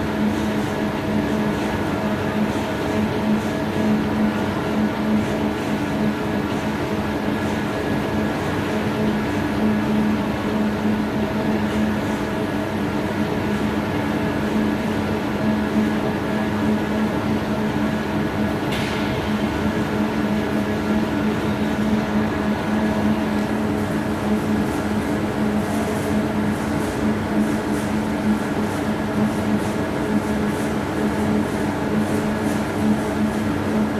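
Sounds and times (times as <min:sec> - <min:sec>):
factory machinery humming: 0:00.0 - 0:33.9.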